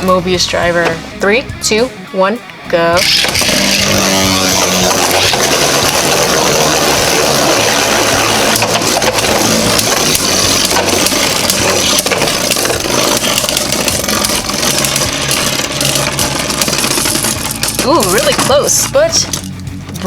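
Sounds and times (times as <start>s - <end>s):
spinning tops clashing: 3.0s - 20.0s
spinning tops whirring: 3.0s - 20.0s.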